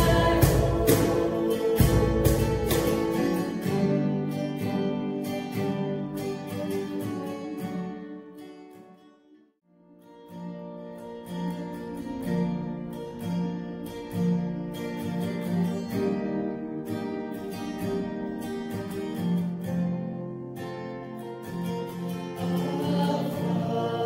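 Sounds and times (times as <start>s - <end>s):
acoustic guitar picking: 0.0s - 24.0s
music: 0.0s - 24.0s.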